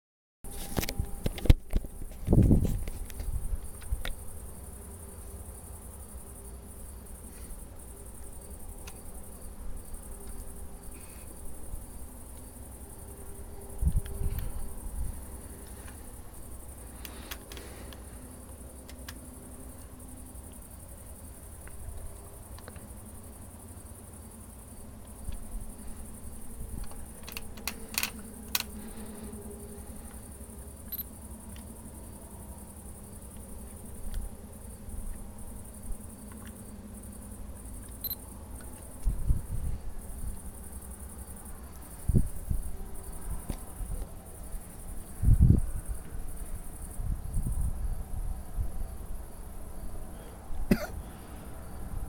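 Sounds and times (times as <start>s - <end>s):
crickets chirping: 0.5s - 52.0s.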